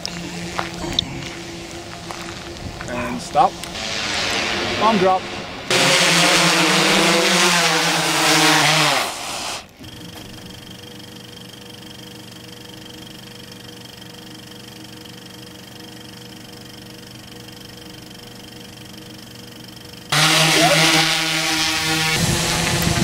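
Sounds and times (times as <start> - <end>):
drone propellers whining: 0.0 - 23.0
steady mechanical whir: 0.0 - 23.0.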